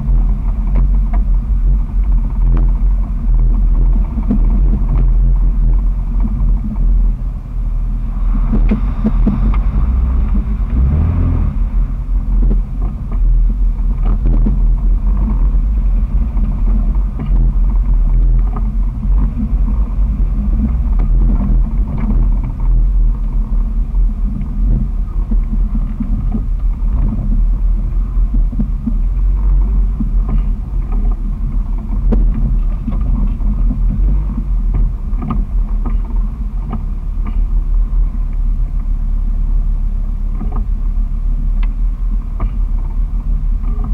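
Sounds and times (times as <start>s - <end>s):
body and suspension rattles: 0.0s - 43.9s
loud uneven engine rumble: 0.0s - 43.9s.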